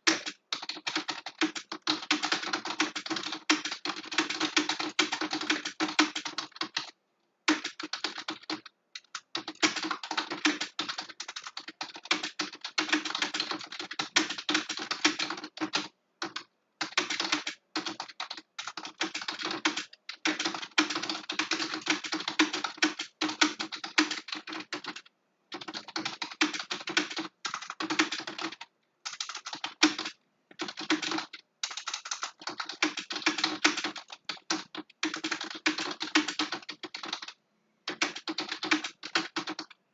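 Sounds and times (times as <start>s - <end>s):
fast typing on a keyboard: 0.0s - 39.8s.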